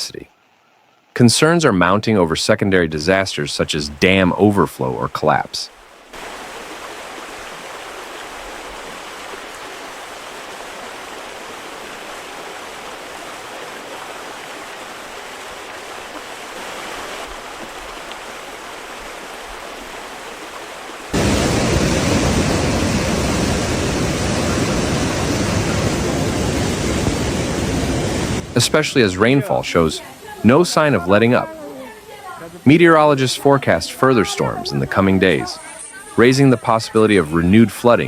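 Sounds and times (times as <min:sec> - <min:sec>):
floodwater rushing: 0:02.9 - 0:38.0.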